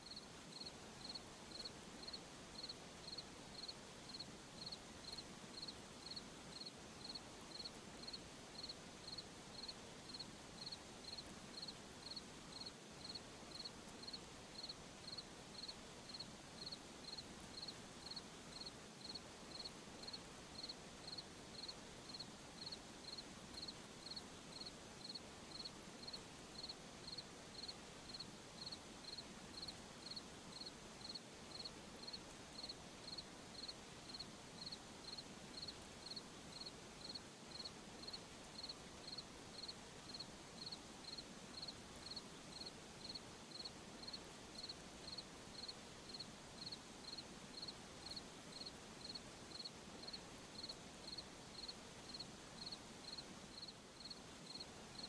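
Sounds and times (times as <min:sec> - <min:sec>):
cricket chirping: 0:00.0 - 0:55.0
night ambience hiss: 0:00.0 - 0:55.0.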